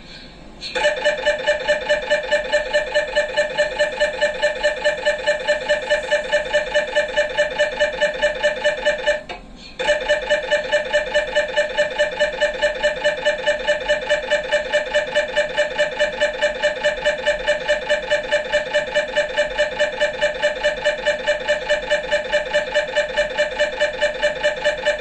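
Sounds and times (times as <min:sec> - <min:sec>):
mri scanner pulsing buzz: 0:00.0 - 0:25.0.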